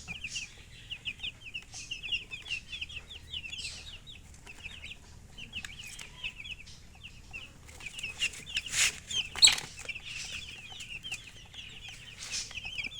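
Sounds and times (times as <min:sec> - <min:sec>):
baby chicks peeping: 0:00.0 - 0:12.9.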